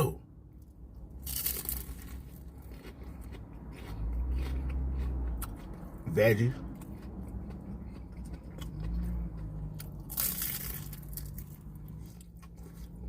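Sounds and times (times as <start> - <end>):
crackling chewing: 0.6 - 13.0.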